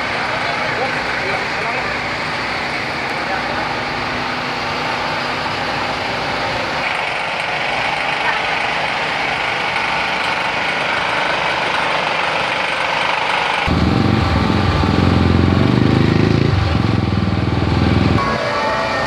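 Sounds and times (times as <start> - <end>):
low pulsing engine running: 0.0 - 19.0
street noise: 0.0 - 19.0.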